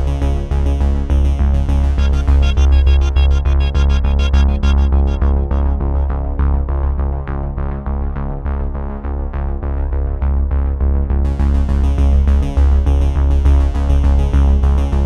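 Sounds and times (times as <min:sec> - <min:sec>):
electronic music with bass: 0:00.0 - 0:15.0.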